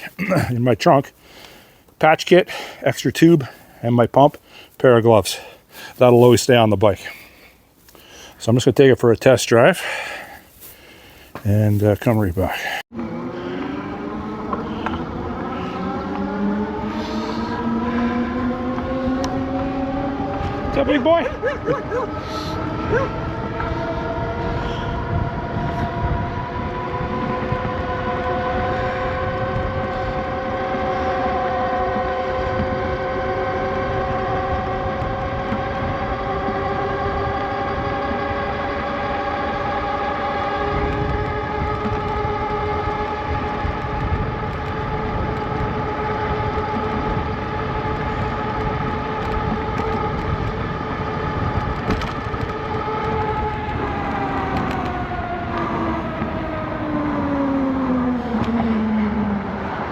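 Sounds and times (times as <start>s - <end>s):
wind and tyre noise: 0.0s - 59.9s
e-bike motor whining: 9.8s - 59.9s.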